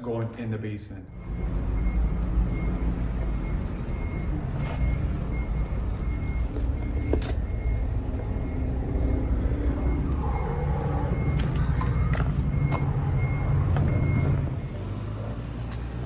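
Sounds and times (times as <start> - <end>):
large engine running: 1.1 - 16.0.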